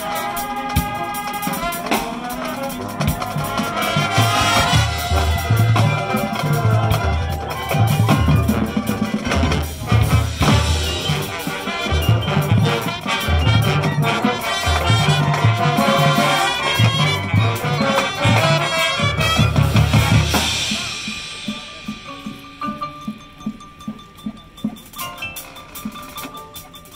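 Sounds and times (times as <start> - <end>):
marching band playing: 0.0 - 26.9.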